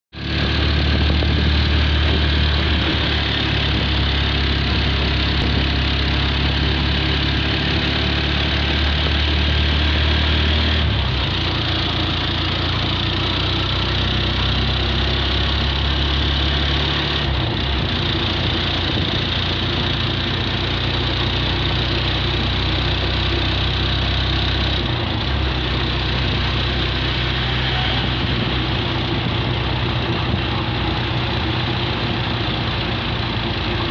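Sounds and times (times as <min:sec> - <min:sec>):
engine running with hiss: 0:00.2 - 0:33.9.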